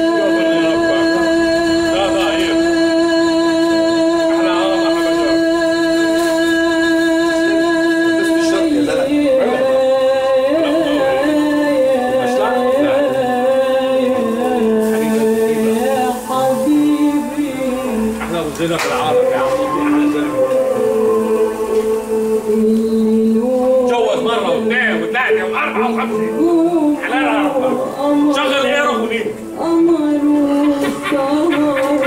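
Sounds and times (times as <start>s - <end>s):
music with singing: 0.0s - 32.0s.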